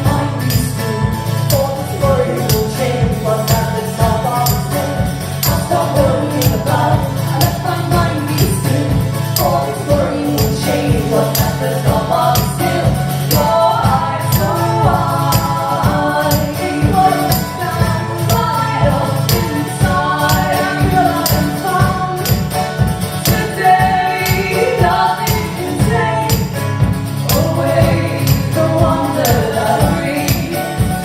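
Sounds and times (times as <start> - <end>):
strummed percussive beat: 0.0 - 31.0
vocals singing in harmony: 0.0 - 31.0.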